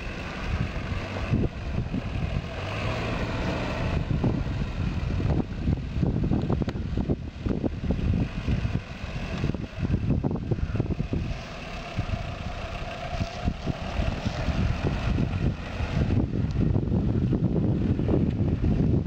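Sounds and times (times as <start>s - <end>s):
car engine running at low revs: 0.0s - 19.0s
wind buffeting microphone: 0.0s - 19.0s.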